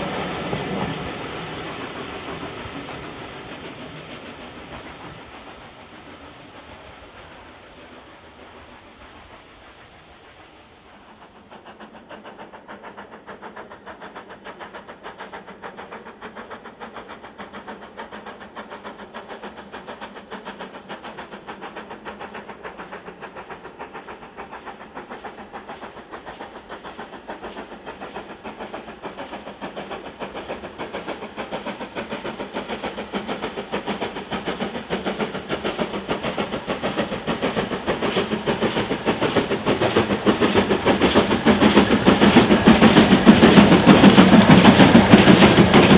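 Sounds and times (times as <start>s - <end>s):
steam locomotive exhaust beat: 0.0s - 45.9s.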